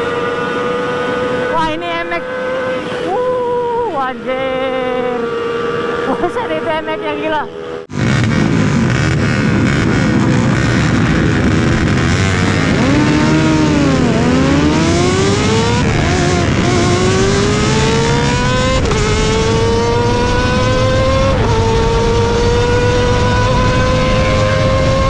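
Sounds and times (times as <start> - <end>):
motorcycle accelerating through gears: 0.0 - 25.0
wind and road noise: 0.0 - 25.0.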